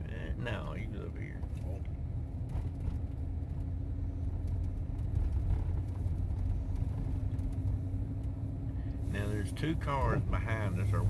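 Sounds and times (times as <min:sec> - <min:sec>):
vehicle engine and tyre rumble: 0:00.0 - 0:11.0.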